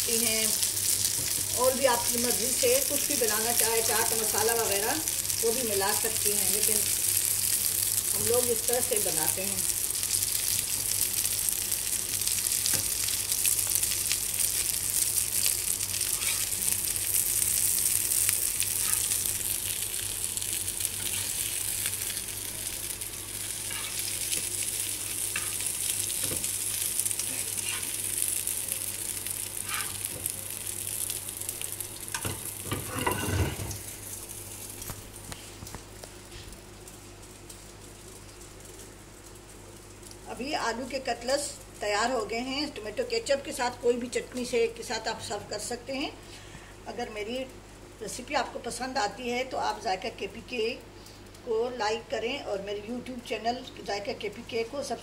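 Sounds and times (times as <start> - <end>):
food sizzling with crackles: 0.0 - 55.0.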